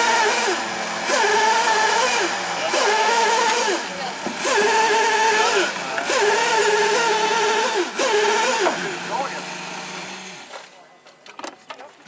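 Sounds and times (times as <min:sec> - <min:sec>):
model boat engine revving: 0:00.0 - 0:10.5.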